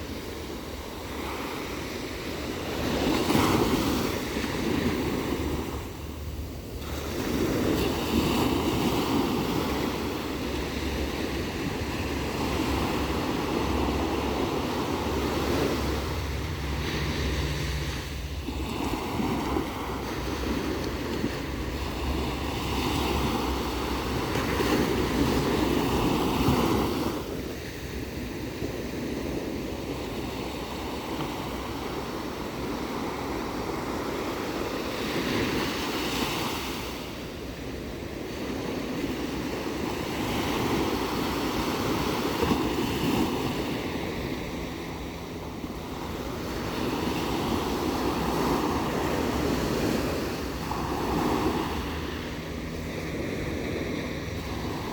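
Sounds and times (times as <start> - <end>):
ocean waves breaking: 0.0 - 54.9.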